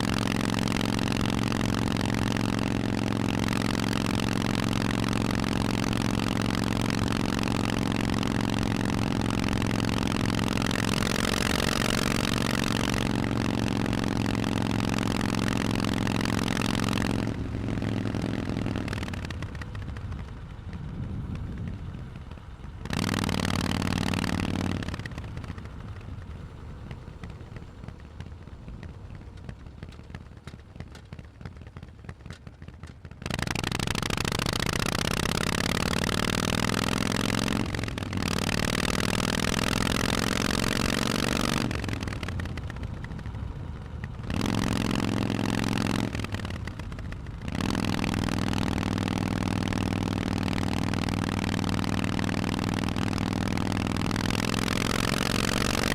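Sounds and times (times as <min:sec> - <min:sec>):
exhaust crackle: 0:00.0 - 0:55.9
motorcycle engine rumbling: 0:00.0 - 0:55.9.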